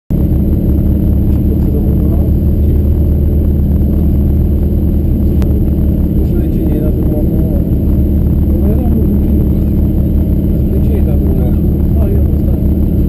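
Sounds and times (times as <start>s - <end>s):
car engine idling: 0.1s - 13.0s.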